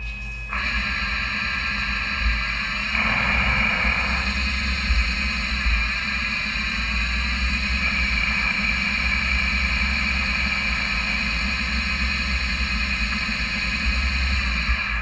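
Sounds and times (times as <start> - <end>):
low hum: 0.0 - 15.0
lathe spindle whine: 0.5 - 15.0.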